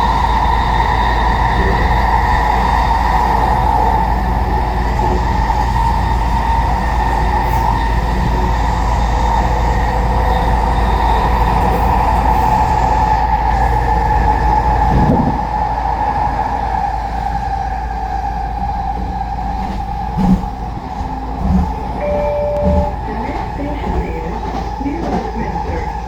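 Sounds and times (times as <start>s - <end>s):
constant hum: 0.0s - 26.0s
train wheels rumbling on track: 0.0s - 26.0s.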